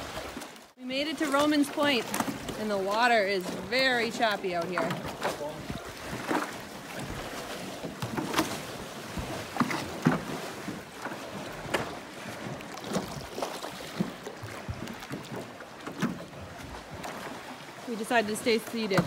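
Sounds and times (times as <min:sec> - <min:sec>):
water slapping and splashing: 0:00.0 - 0:19.0.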